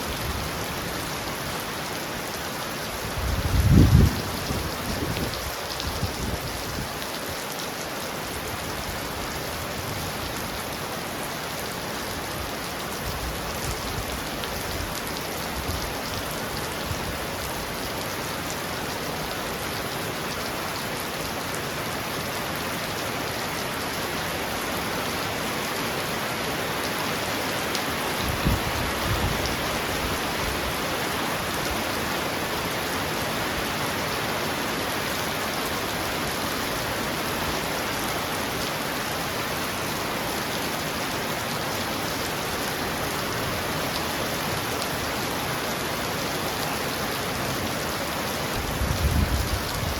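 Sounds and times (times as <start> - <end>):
heavy rain on a roof: 0.0 - 49.9.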